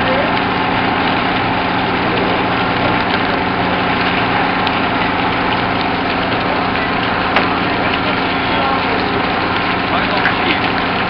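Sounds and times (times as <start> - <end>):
engine idling: 0.0 - 11.0
hose water splashing on concrete: 0.0 - 11.0.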